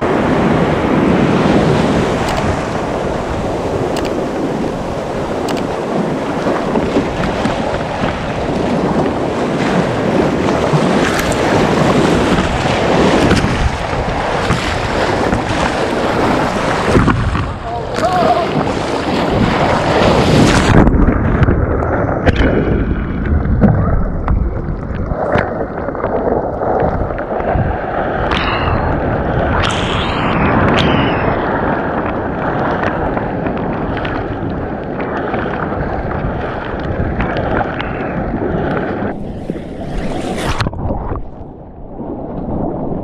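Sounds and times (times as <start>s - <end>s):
water splashing along kayak hull: 0.0s - 29.9s, 31.2s - 43.0s
wind buffeting microphone: 0.0s - 43.0s.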